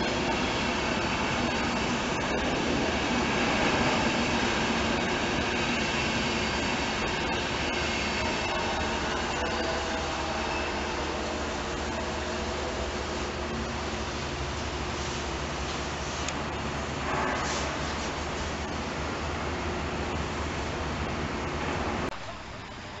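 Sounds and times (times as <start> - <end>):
train wheels rumbling on track: 0.0 - 22.8.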